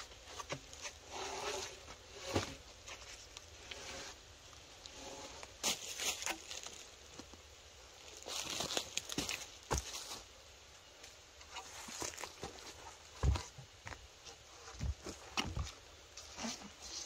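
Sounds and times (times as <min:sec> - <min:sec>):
rustling and crunching of dry material: 0:00.0 - 0:17.0.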